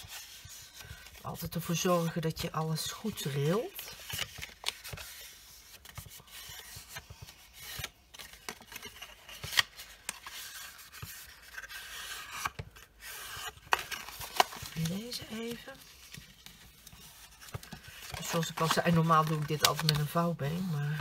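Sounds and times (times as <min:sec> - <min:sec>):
paper rustling and crackling: 0:00.0 - 0:21.0.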